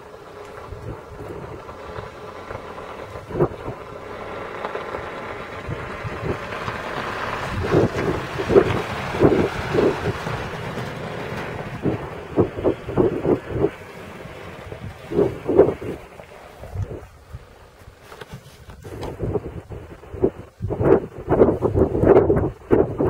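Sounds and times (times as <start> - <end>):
wind buffeting microphone: 0.0 - 23.0
dull gusting thumps: 0.6 - 23.0.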